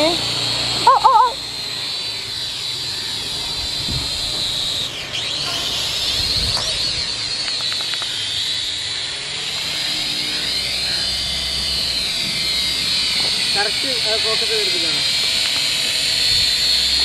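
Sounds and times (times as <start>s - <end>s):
toy drone motors whining: 0.0s - 17.0s.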